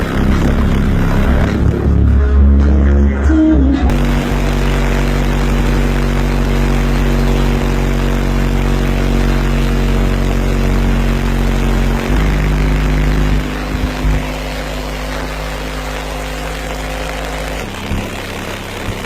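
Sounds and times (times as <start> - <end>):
loud distorted bass tone: 0.0 - 19.0.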